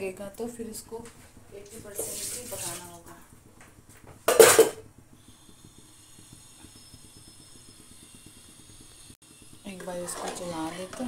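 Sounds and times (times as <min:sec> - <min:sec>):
rapid low ticking of boiling pot: 0:00.0 - 0:11.0.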